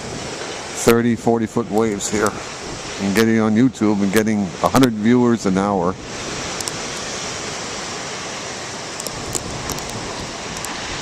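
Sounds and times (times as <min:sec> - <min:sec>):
surf breaking on shore: 0:00.0 - 0:11.0.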